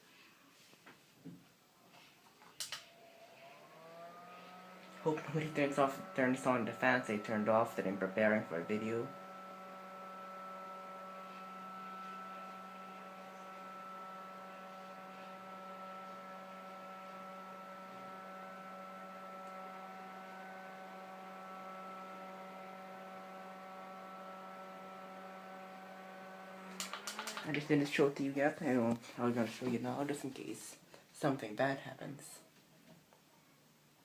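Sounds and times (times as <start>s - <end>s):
ceiling fan motor hum: 2.6s - 31.0s.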